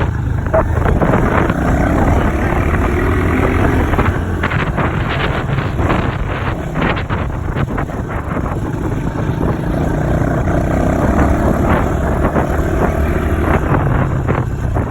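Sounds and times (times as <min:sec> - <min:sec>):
dirt bike engine running: 0:00.0 - 0:14.9
wind buffeting microphone: 0:00.0 - 0:14.9.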